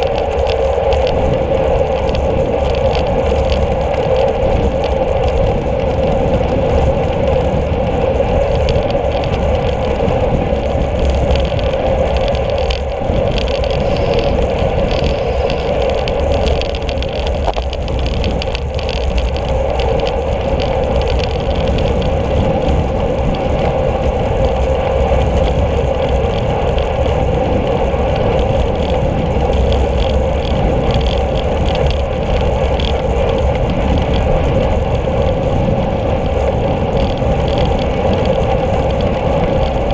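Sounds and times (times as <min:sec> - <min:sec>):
bicycle road rumble on asphalt: 0:00.0 - 0:39.9
wind noise: 0:00.0 - 0:39.9.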